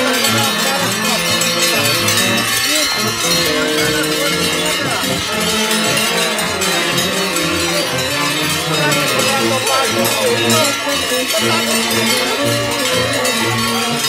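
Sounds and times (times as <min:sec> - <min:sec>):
faint crowd voices: 0:00.0 - 0:14.0
large cowbells clanging: 0:00.0 - 0:14.0.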